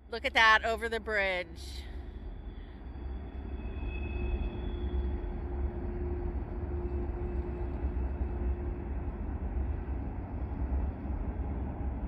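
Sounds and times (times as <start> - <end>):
distant train rumble: 0.0 - 12.0.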